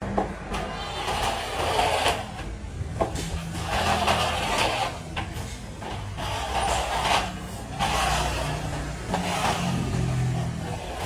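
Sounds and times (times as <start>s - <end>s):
screed scraping wet concrete: 0.4s - 2.5s, 3.2s - 11.0s.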